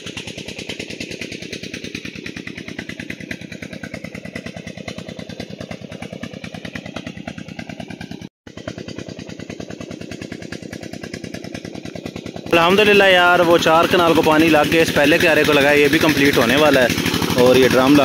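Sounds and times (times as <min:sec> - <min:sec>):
engine running with rapid beat: 0:00.0 - 0:18.0.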